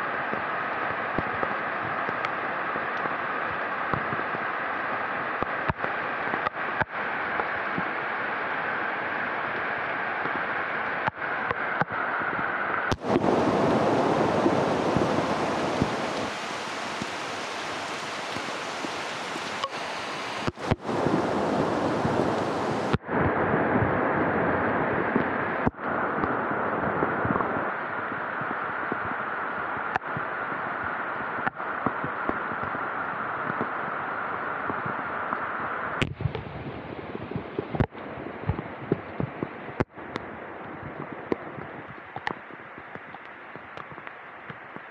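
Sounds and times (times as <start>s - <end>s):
rain falling steadily: 0.0s - 44.9s.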